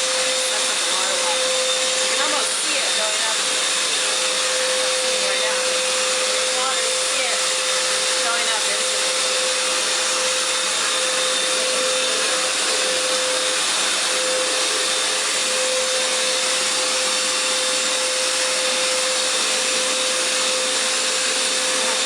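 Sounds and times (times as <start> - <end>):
floor cleaner motor whine: 0.0 - 22.0.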